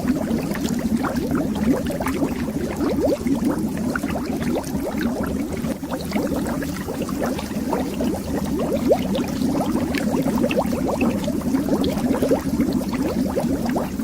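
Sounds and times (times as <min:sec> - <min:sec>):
underwater bubbles: 0:00.0 - 0:14.0.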